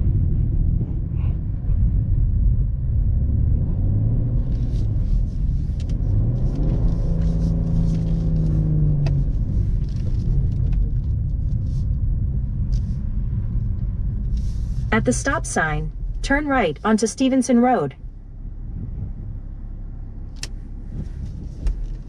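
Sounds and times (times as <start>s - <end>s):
car driving through snow rumble: 0.0s - 22.0s
car engine running: 0.0s - 22.0s.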